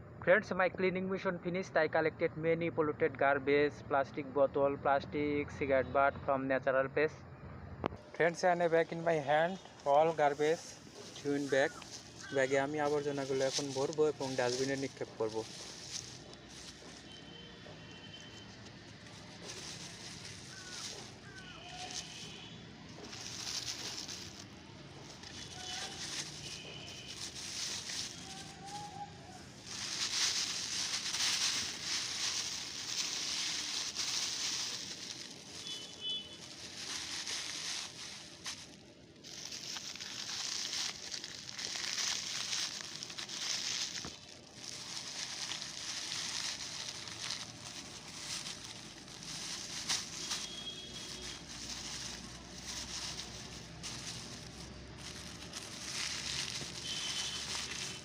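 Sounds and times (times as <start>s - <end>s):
plastic bag crinkling: 9.8s - 58.0s.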